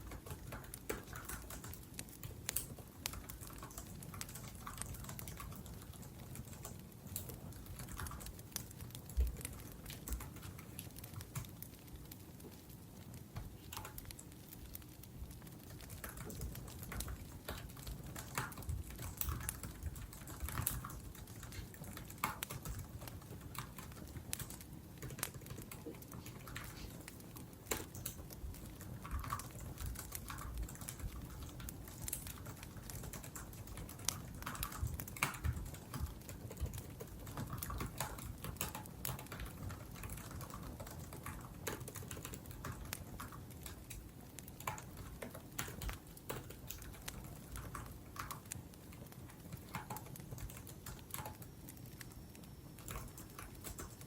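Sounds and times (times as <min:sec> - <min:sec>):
laptop keyboard typing: 0:00.0 - 0:54.0
wood fire crackling: 0:00.0 - 0:54.0.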